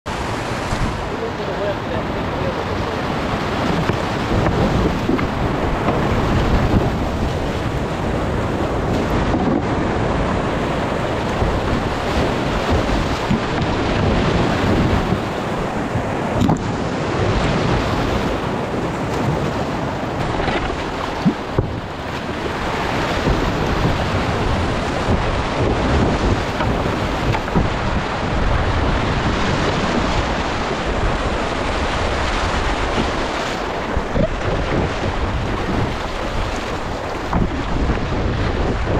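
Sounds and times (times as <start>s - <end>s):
water splashing against kayak: 0.1s - 38.9s
whitewater rapids rushing: 0.1s - 38.9s.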